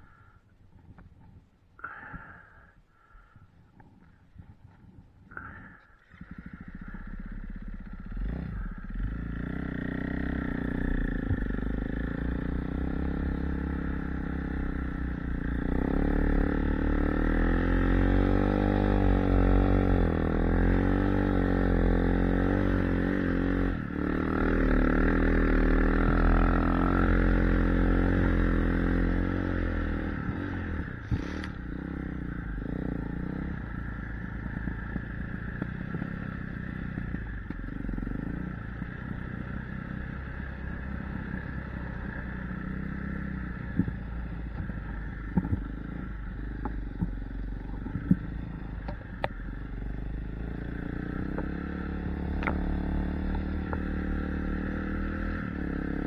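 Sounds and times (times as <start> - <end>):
dirt bike engine revving: 5.4 - 47.1, 47.8 - 56.0.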